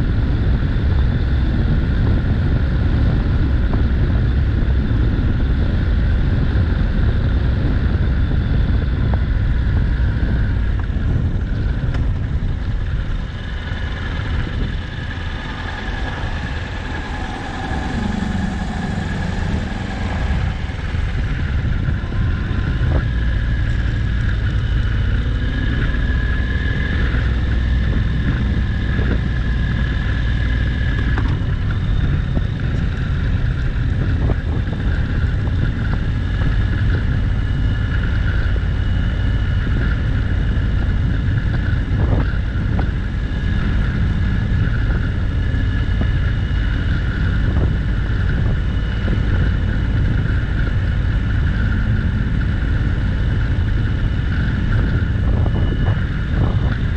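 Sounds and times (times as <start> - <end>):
motorcycle engine running: 0.0 - 56.9
wind noise on microphone: 0.0 - 56.9.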